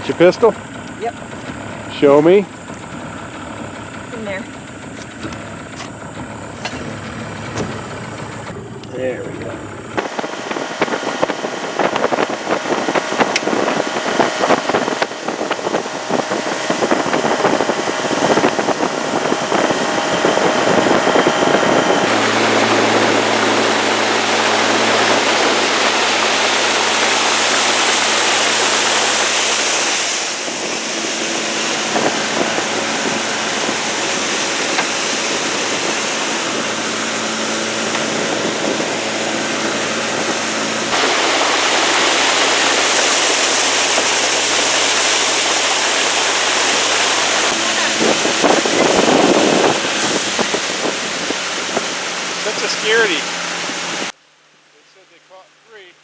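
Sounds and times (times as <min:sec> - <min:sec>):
outboard motor running: 0:00.0 - 0:54.2
water and wind rushing: 0:00.0 - 0:54.2.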